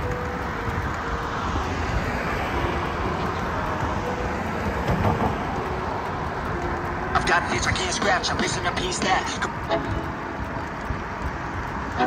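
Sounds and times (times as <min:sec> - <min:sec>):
wind rumble on microphone: 0:00.0 - 0:07.2, 0:09.3 - 0:12.0.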